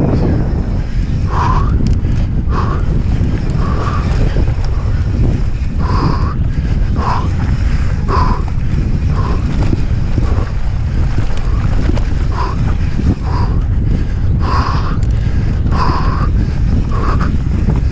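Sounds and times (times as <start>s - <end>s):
bike rattling over rough trail: 0.0s - 17.9s
wind buffeting microphone: 0.0s - 17.9s.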